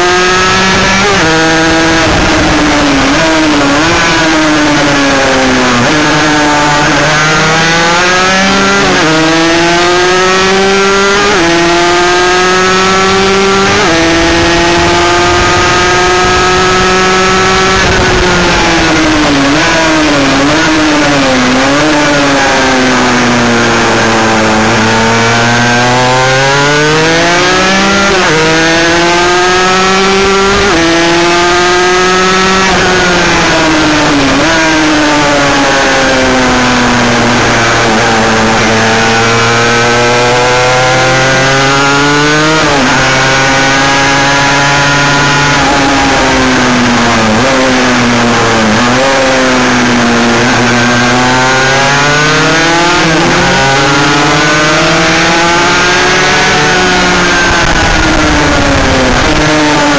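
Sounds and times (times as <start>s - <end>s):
motorcycle engine at racing revs: 0.0s - 59.9s
wind and road noise: 0.0s - 59.9s.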